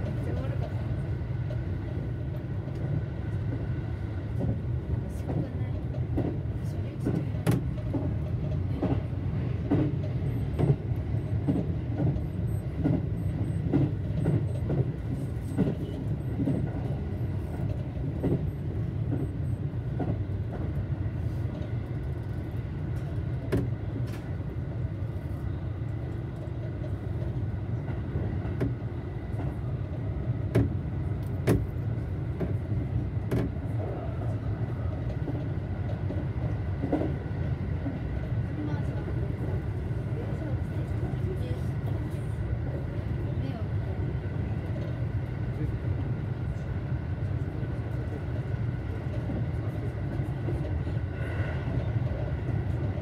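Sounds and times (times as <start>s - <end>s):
train rumble with faint whine: 0.0s - 53.0s.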